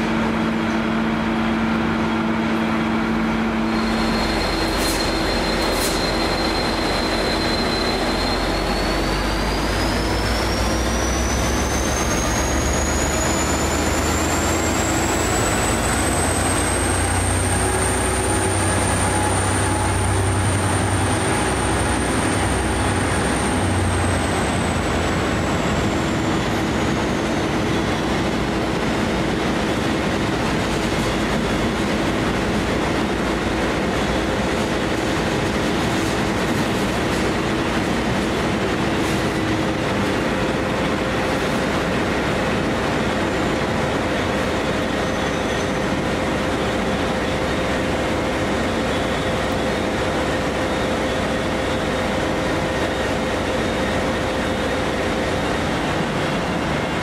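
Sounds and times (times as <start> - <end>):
diesel locomotive engine and rail noise: 0.0 - 57.0.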